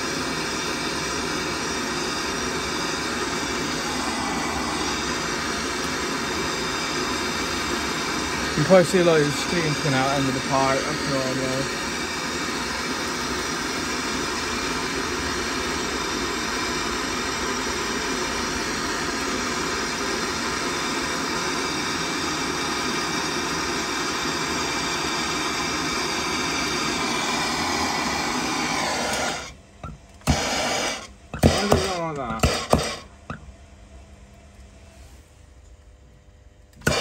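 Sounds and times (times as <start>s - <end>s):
blowtorch hissing: 0.0s - 29.6s, 30.2s - 33.1s, 36.8s - 37.0s.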